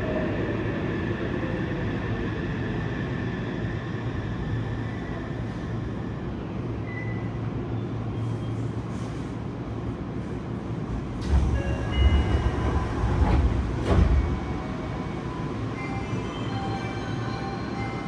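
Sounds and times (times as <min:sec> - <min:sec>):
subway car hum: 0:00.0 - 0:18.0.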